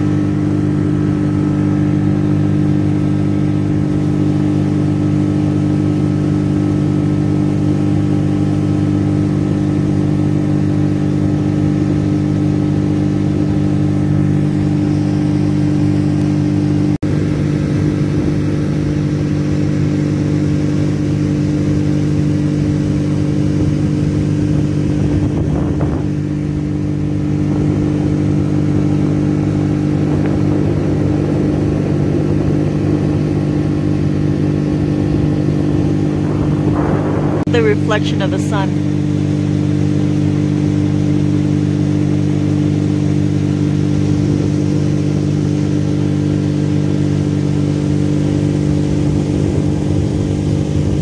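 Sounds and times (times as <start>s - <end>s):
motorboat engine running: 0.0s - 51.0s.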